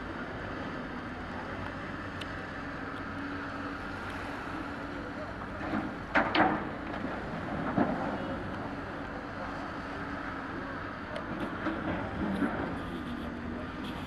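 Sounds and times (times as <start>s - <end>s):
engine hum: 0.0s - 14.0s.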